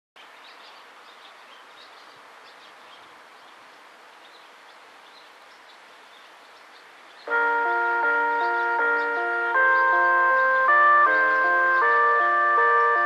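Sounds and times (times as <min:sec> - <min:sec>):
steady background hiss: 0:00.2 - 0:13.0.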